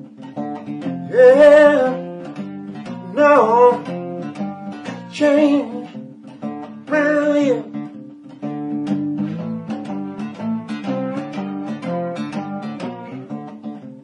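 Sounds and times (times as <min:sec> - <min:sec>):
lap slide guitar melody: 0:00.0 - 0:14.0.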